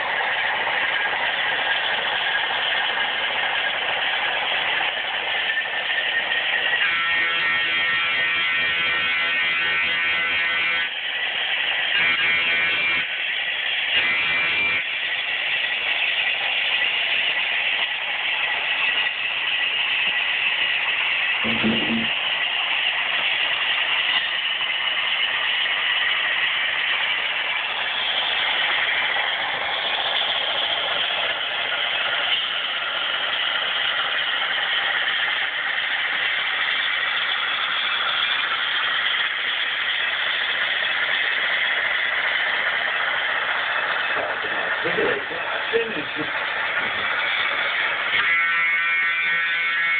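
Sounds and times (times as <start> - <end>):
model locomotive running: 0.0 - 49.9.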